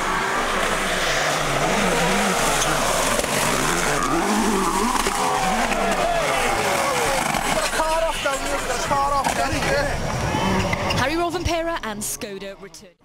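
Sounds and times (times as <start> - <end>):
rally car engine revving: 0.0 - 11.2.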